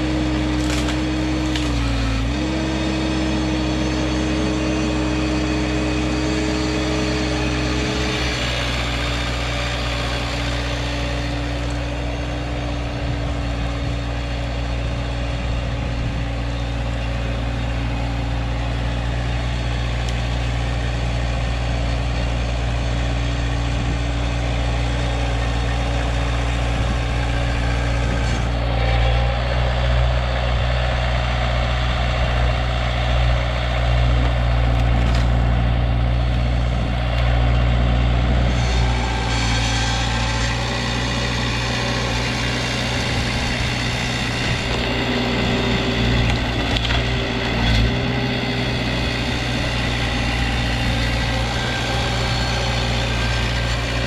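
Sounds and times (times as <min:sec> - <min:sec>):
mini skid steer engine running: 0:00.0 - 0:54.0.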